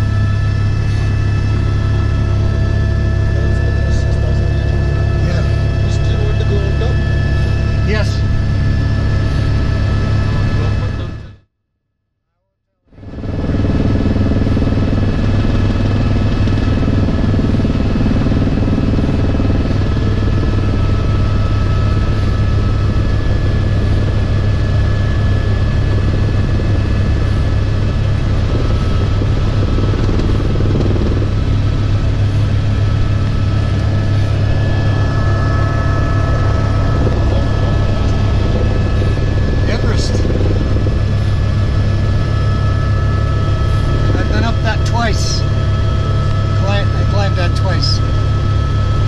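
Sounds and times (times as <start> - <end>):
high turbine whine: 0.0 - 11.4, 12.9 - 49.0
helicopter rotor and engine drone: 0.0 - 11.5, 12.9 - 49.0.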